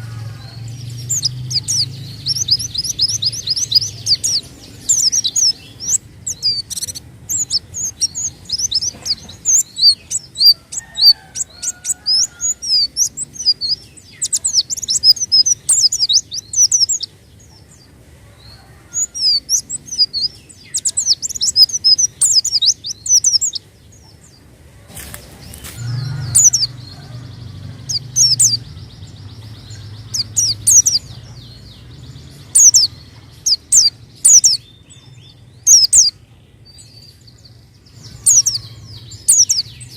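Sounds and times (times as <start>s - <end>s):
bird chirping rapidly: 0.0s - 24.2s, 25.2s - 39.9s.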